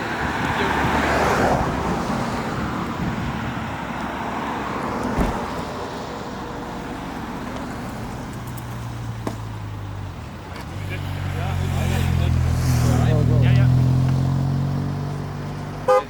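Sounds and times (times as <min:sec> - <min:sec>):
car engines running: 0:00.0 - 0:16.0.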